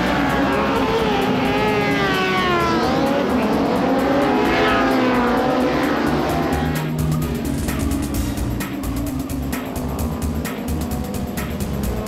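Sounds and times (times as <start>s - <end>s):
motorcycles revving and accelerating: 0.0s - 12.0s.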